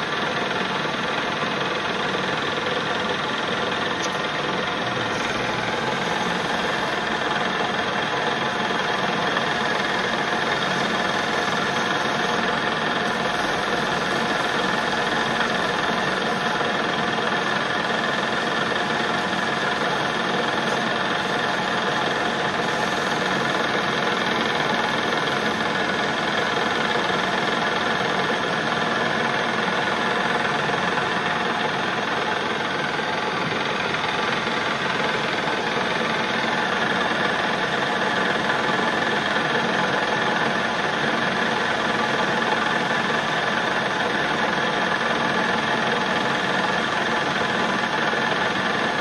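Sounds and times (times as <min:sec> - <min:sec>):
metal lathe running: 0:00.0 - 0:49.0.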